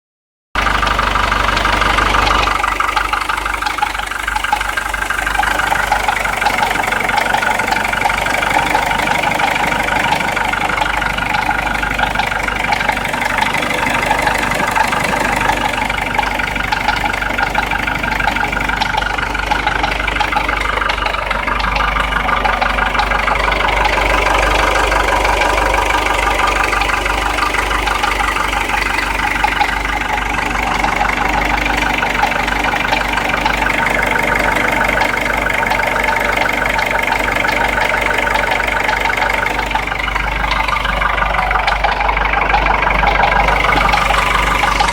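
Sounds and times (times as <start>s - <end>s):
diesel engine idling: 0.6s - 44.9s
fast knocking from engine: 0.6s - 44.9s.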